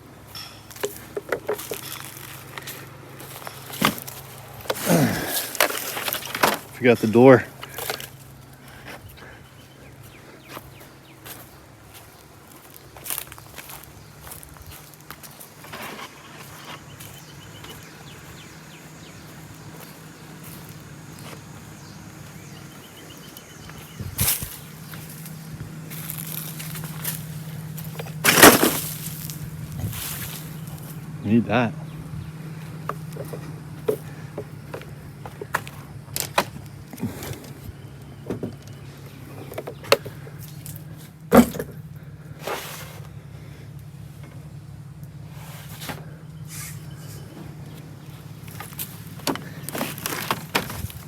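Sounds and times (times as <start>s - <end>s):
knocks and clanks of vehicle parts: 0.0s - 12.2s, 15.1s - 31.1s, 31.8s - 43.1s, 47.0s - 51.0s
steady low hum: 0.0s - 51.0s.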